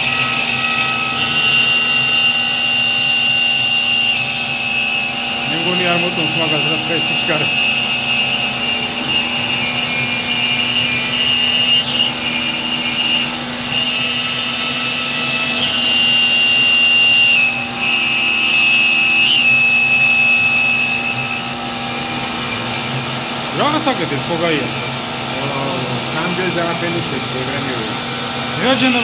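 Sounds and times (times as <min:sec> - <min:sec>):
metal cutting noise: 0:00.0 - 0:29.0
milling machine high whine: 0:00.0 - 0:29.0.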